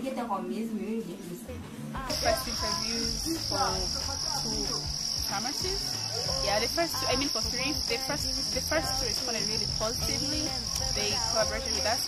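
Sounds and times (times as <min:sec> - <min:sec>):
woman talking: 0:00.0 - 0:12.0
shrill insect chorus: 0:02.1 - 0:12.0.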